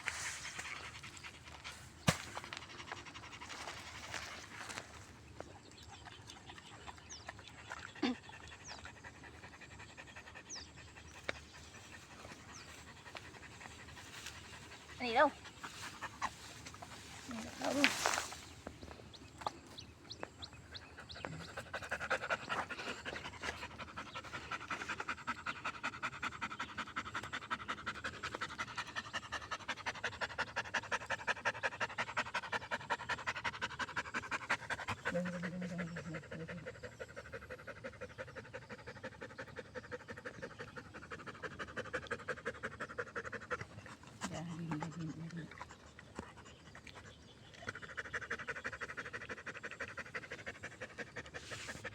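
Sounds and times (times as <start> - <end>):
dog panting rapidly: 6.4 - 16.8, 20.6 - 51.9.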